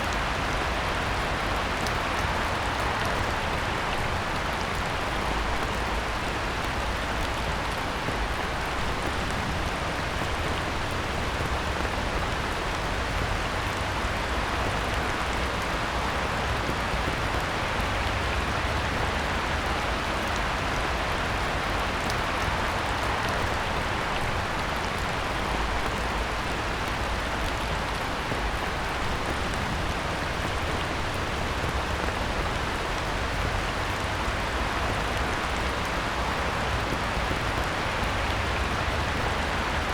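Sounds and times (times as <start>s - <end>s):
heavy rain on a pond: 0.0s - 39.9s.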